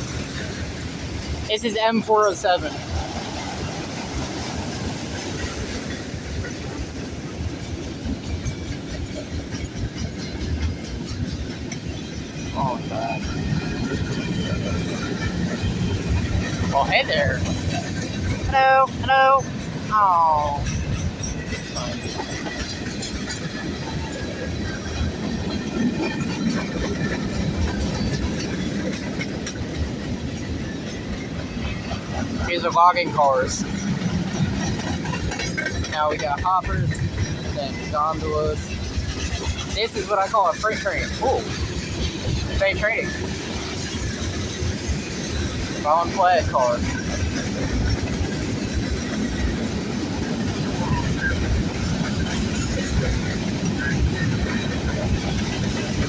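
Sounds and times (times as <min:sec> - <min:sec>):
freight train rumbling past: 0:00.0 - 0:56.0
steel wheels on rails: 0:00.0 - 0:56.0.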